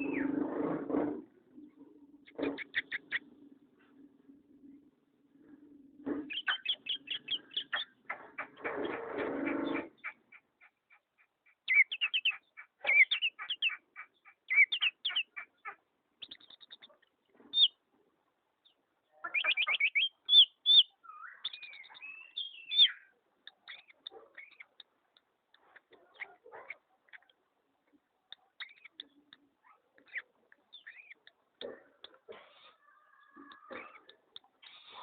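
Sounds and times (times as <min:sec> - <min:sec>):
songbird chirping: 0:00.0 - 0:00.6, 0:01.6 - 0:35.0.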